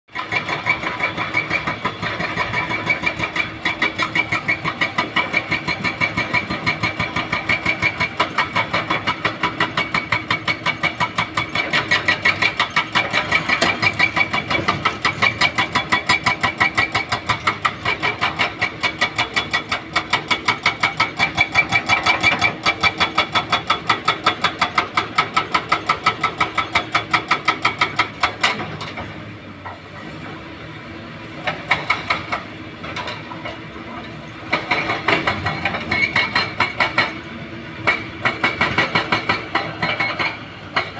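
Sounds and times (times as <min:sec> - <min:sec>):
diesel excavator engine running: 0:00.1 - 0:40.9.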